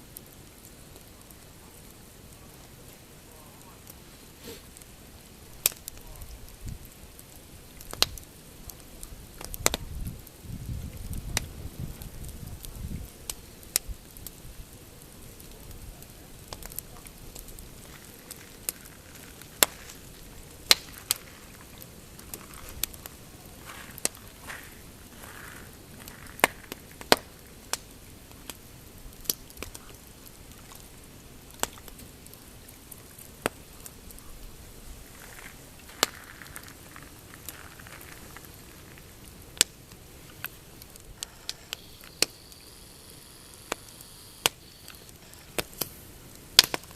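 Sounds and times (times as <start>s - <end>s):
campfire crackling and popping: 0.0s - 46.9s
soft steady hiss: 0.0s - 46.9s.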